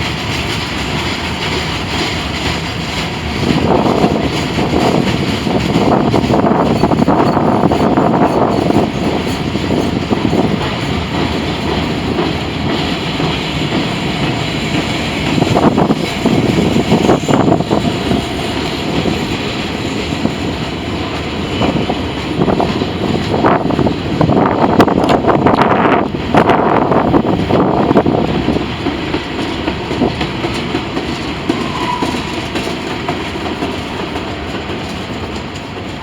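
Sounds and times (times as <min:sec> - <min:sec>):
freight train wheels rumbling on rail: 0:00.0 - 0:36.0
train wheels clattering: 0:00.0 - 0:36.0.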